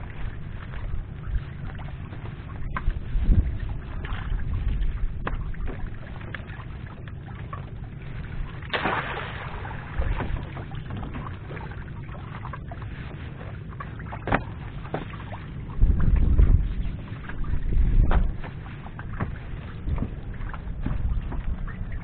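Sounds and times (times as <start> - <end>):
wind buffeting microphone: 0.0 - 13.6, 14.2 - 22.0
water moving around boat: 0.0 - 22.0
water splashing: 0.0 - 22.0.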